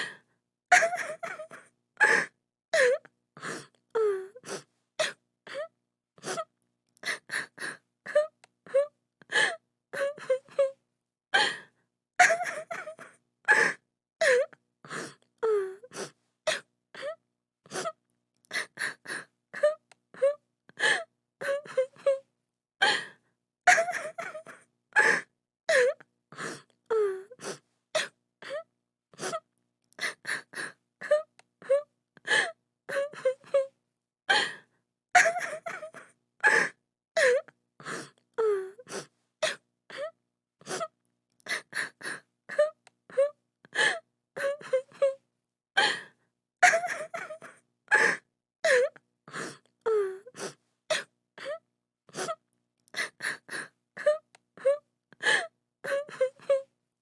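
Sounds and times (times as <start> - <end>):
woman sobbing and gasping: 0.0 - 10.8, 11.4 - 45.2, 45.8 - 52.4, 53.0 - 56.7.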